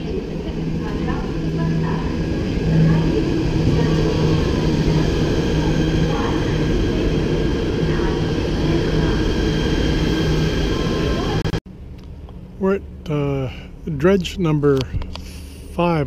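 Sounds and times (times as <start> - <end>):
electric train humming: 0.0 - 14.9.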